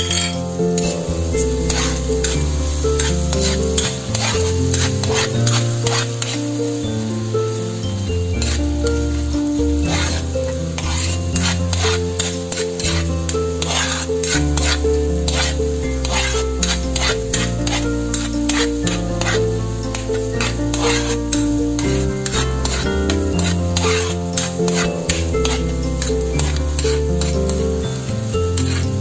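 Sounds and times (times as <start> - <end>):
metal spatula scraping pan: 0.0 - 6.8, 8.4 - 29.0
background music: 0.0 - 29.0
garlic sizzling in butter: 0.0 - 29.0.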